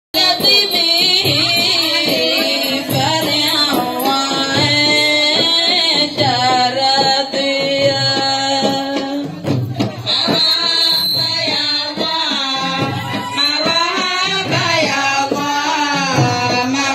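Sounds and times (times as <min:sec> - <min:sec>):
frame drums beating: 0:00.2 - 0:16.9.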